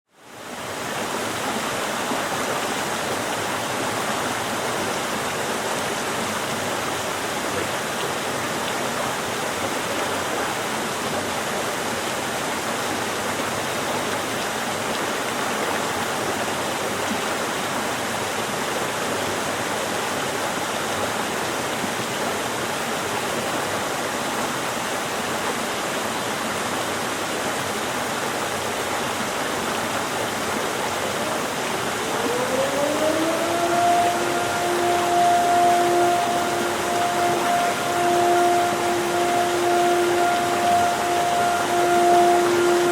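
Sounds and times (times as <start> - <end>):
river water rushing over rocks: 0.1 - 42.9.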